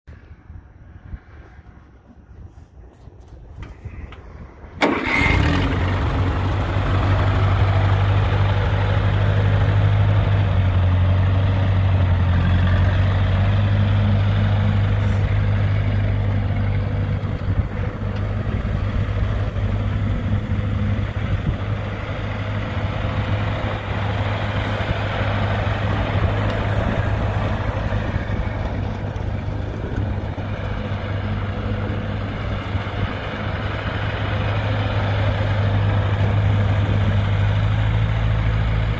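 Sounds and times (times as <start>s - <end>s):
tractor engine running: 1.4s - 38.9s.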